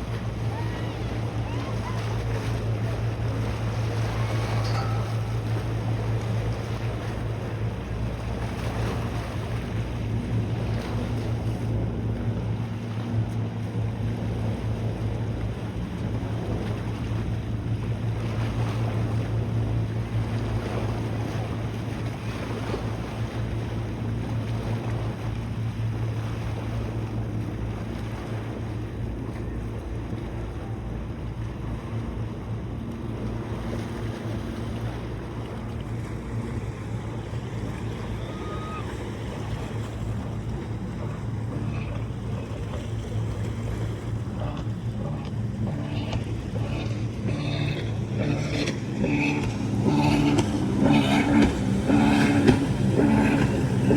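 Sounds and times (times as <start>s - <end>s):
boat engine humming: 0.0s - 53.9s
rushing water: 0.0s - 53.9s.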